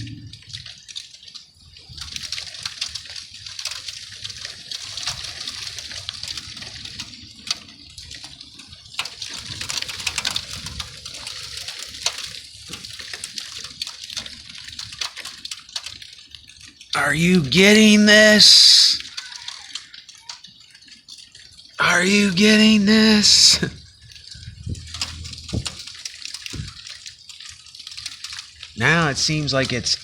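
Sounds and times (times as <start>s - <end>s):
snow and ice pellets falling: 0.0s - 30.0s.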